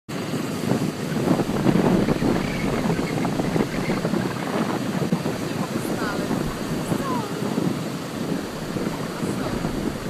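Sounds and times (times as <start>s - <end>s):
breaking surf: 0.1s - 10.0s
wind buffeting the microphone: 0.1s - 10.0s.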